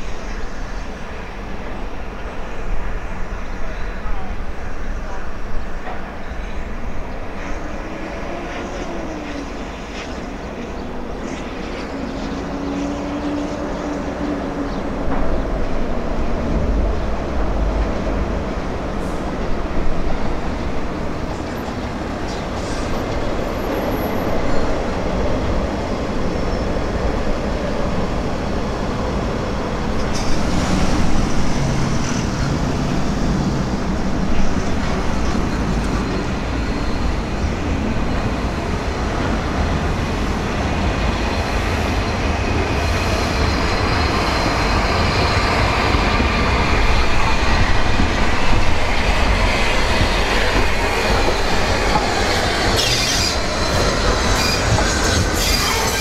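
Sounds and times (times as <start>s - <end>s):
steam locomotive running: 5.0s - 56.0s.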